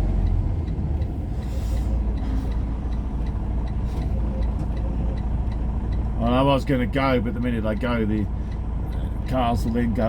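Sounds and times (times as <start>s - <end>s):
vehicle engine rumbling: 0.0s - 10.0s
light ticking: 0.2s - 10.0s.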